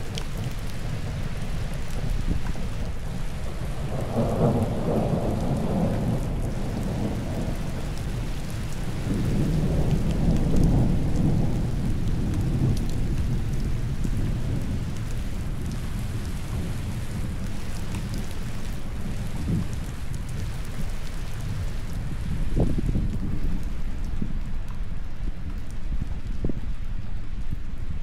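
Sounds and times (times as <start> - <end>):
thunder rumbling: 0.0 - 25.2
steady rain falling: 0.0 - 28.0.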